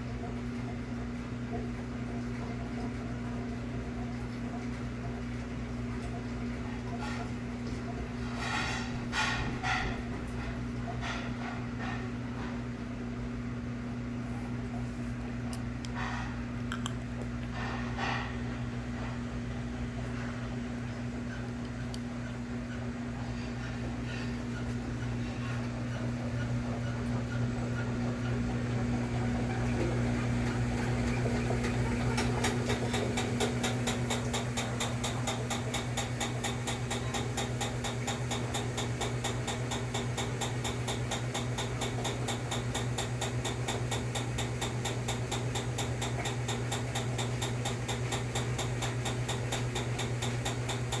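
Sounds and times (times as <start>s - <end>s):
washing machine motor hum: 0.0s - 51.0s.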